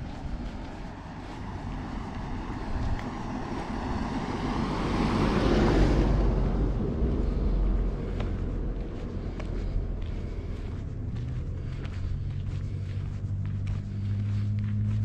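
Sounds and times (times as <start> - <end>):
car driving past: 0.0 - 15.0
wind rumble on microphone: 0.0 - 15.0.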